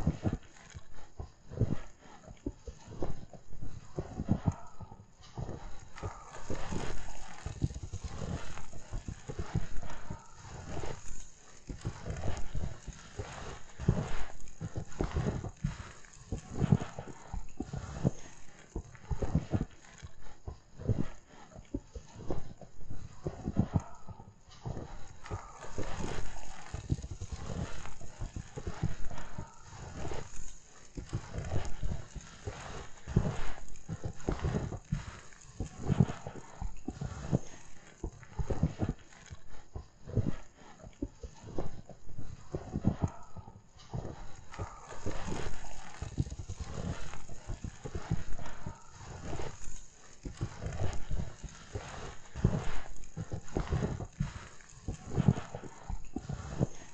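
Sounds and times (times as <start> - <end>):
footsteps crunching through snow: 3.7 - 20.3, 20.9 - 56.9.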